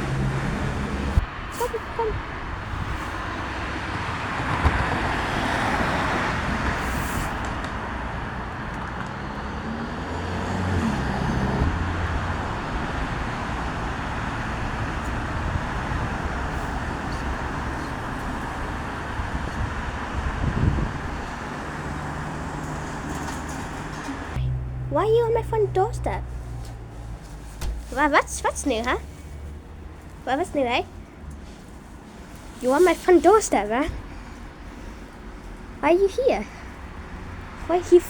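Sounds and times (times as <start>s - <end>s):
road traffic hum: 0.0s - 38.0s.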